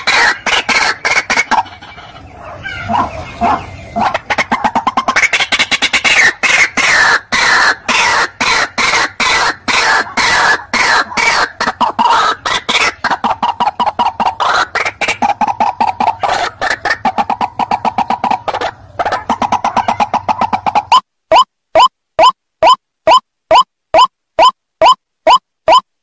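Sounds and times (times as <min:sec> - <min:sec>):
waterhen calling harsh repeated notes: 0:00.0 - 0:25.9.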